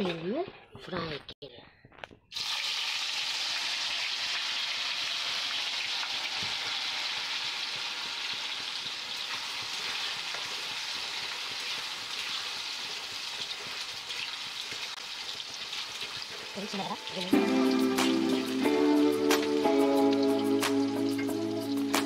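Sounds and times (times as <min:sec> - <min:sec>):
food deep-frying in hot oil: 0:02.3 - 0:22.0.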